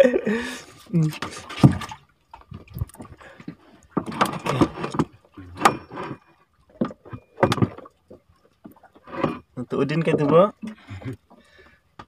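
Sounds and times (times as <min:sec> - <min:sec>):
knocks and scrapes on wooden boat: 0:01.0 - 0:11.4.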